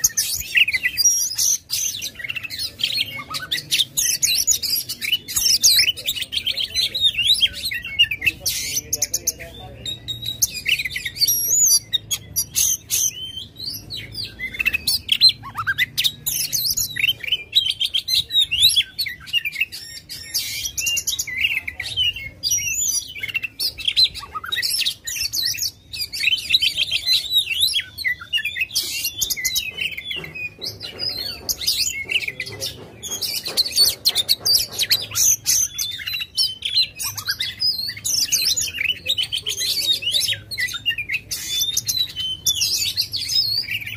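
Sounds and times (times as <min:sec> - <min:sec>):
bird singing whistles and trills: 0:00.0 - 0:43.9.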